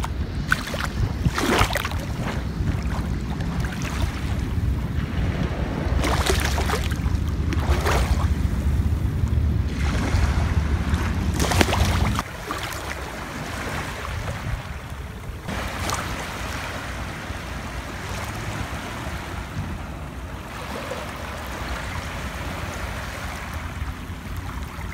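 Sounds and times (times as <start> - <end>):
small waves washing over sand: 0.0 - 24.9
wind rumble on microphone: 0.0 - 24.9.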